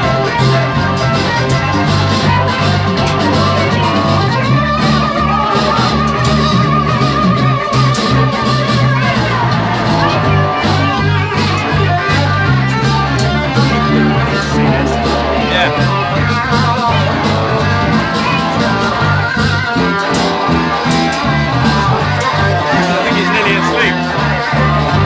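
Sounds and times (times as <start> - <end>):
blues-rock band playing: 0.0 - 25.0
lead guitar with bent notes: 0.0 - 25.0.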